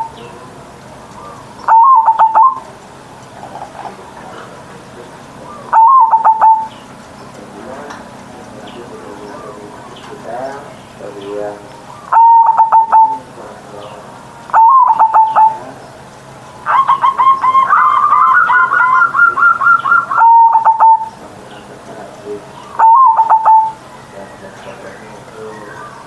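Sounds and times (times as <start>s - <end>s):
dove cooing: 0.0s - 15.9s, 16.6s - 26.0s.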